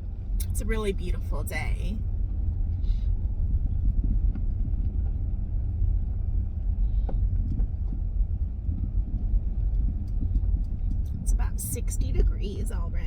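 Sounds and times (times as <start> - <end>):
car rumbling from inside cabin: 0.0 - 13.0.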